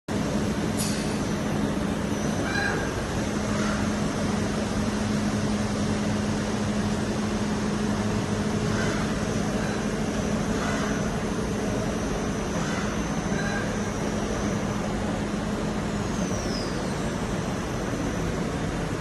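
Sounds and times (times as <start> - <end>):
machining centre humming: 0.1 - 19.0.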